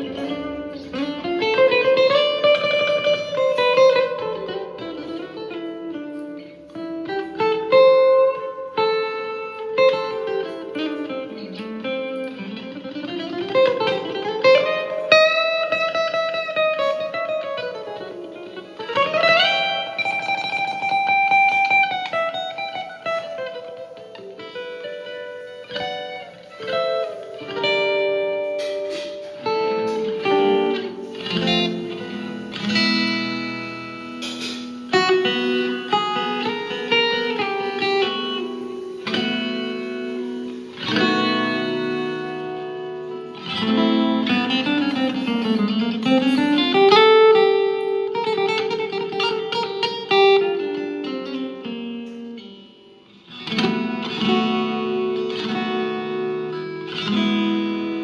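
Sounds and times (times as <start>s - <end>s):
electric guitar picked notes: 0.0s - 58.0s.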